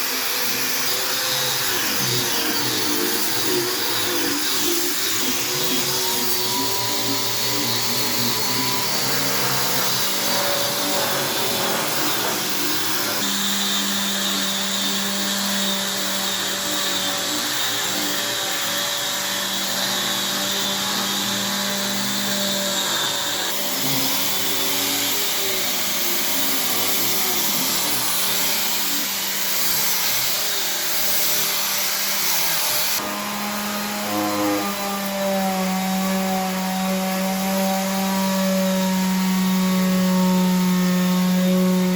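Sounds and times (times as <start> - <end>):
power tools humming: 0.1 - 41.9.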